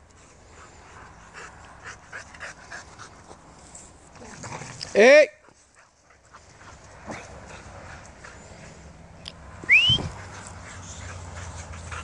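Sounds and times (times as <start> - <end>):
dogs playing on grass: 0.0 - 12.0.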